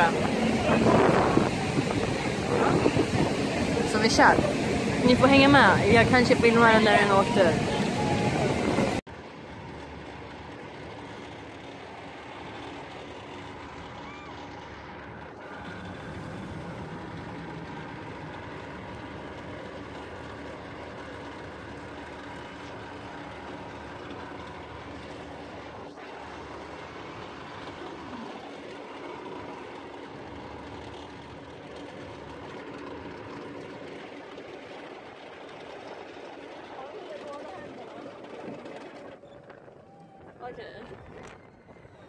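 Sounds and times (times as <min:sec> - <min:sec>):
roller coaster train rolling: 0:00.0 - 0:42.0.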